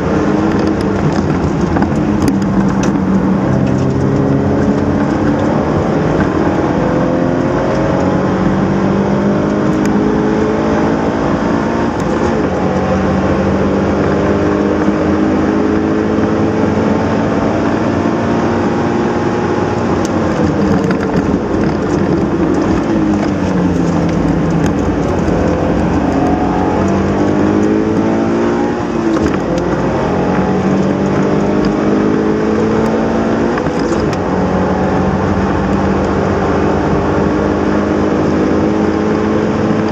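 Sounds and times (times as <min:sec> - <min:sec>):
car engine accelerating and shifting: 0:00.0 - 0:39.9.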